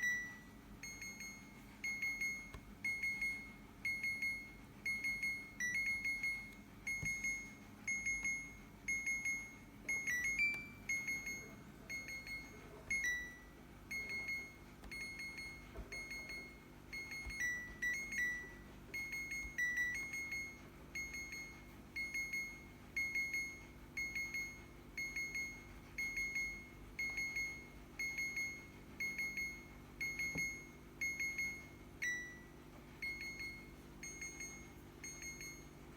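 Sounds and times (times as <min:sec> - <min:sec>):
faint low hum: 0:00.0 - 0:35.9
high fridge alarm beeping: 0:00.0 - 0:35.9.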